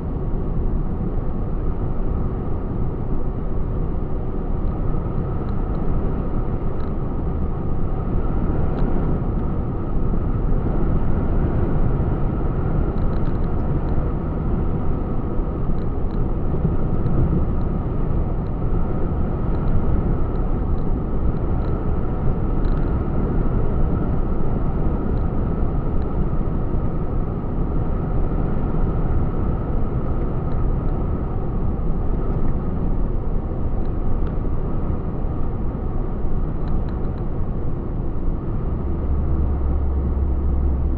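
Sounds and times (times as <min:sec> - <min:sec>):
truck engine and road noise: 0:00.0 - 0:40.9.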